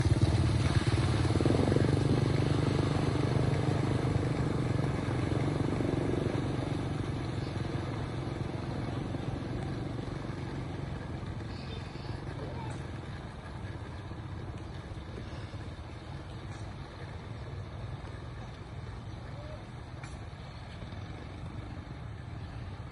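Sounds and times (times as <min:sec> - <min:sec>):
vehicle engine running: 0:00.0 - 0:22.9.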